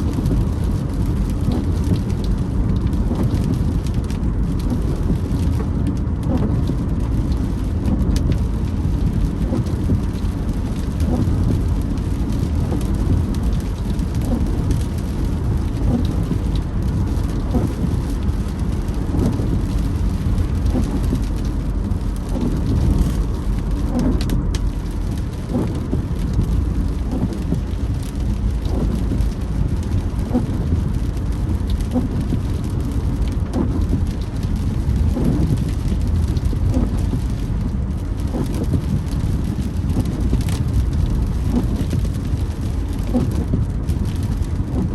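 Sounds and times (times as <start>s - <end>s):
tyres and rain rumbling: 0.0s - 44.9s
windscreen wipers creaking: 0.0s - 44.9s.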